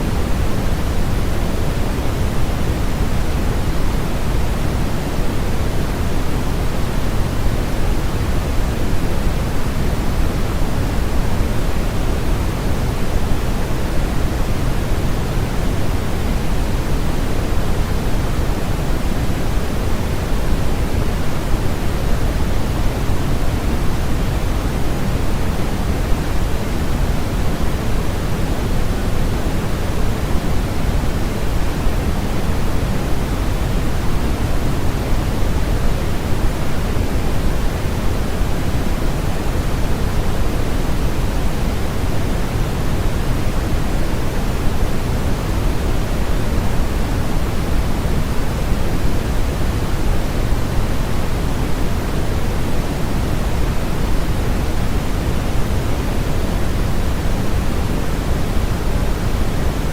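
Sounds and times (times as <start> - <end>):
low pink noise hiss: 0.0 - 59.9.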